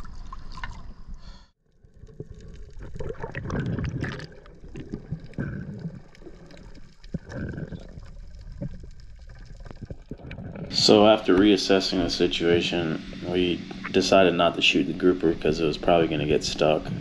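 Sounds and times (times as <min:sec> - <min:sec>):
underwater churning and gurgling: 0:01.8 - 0:17.0.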